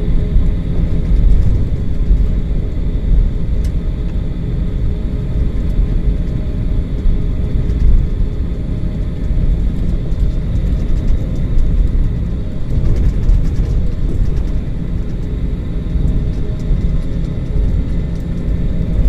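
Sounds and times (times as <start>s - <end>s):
jet cabin engine rumble: 0.0s - 19.0s.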